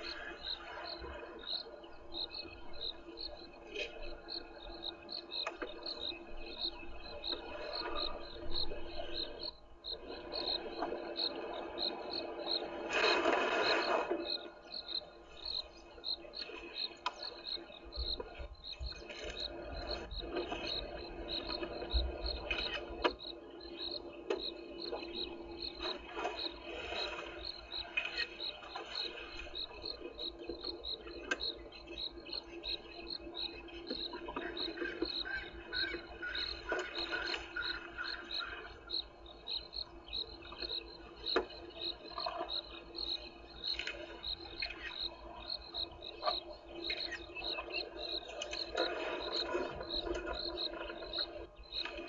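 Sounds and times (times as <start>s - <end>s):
insect chirping: 0.0s - 52.0s.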